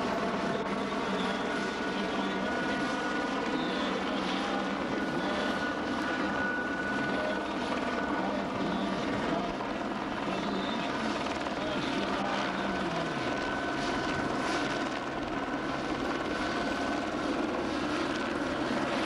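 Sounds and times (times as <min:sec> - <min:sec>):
helicopter hovering: 0:00.0 - 0:19.0.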